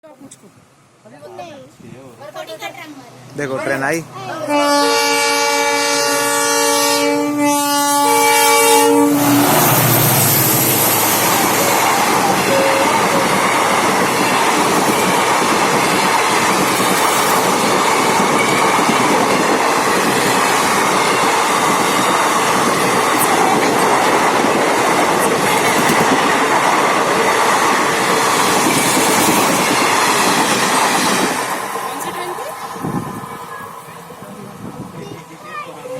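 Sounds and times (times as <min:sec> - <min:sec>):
train wheels on rails: 0:05.0 - 0:35.9.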